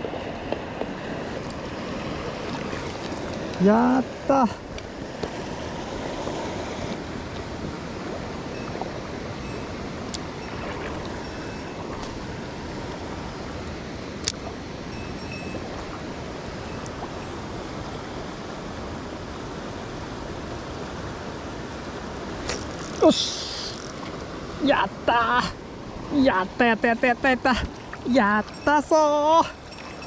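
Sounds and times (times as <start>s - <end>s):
mountain stream rushing: 0.0s - 30.0s.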